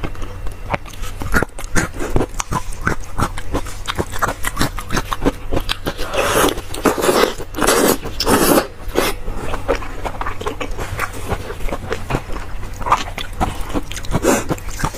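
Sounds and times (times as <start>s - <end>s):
wet chewing and mouth clicks: 0.0s - 14.9s.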